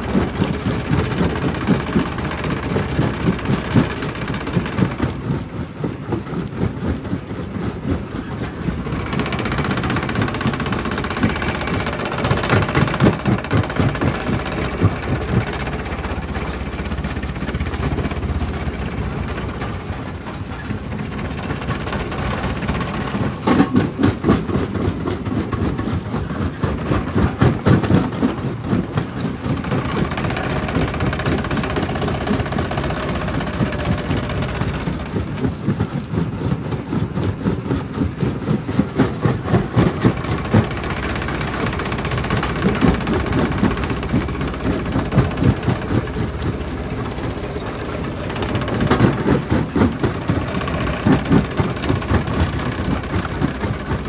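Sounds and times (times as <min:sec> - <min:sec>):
stone crusher running: 0:00.0 - 0:54.0.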